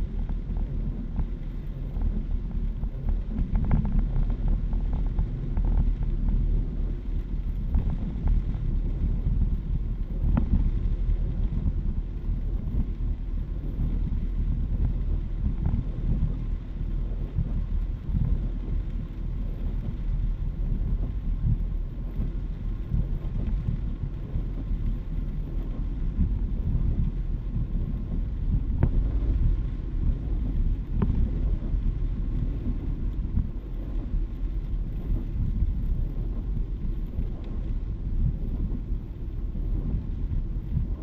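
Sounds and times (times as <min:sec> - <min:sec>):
rain on a car: 0:00.0 - 0:41.0
faint ticks: 0:00.1 - 0:41.0.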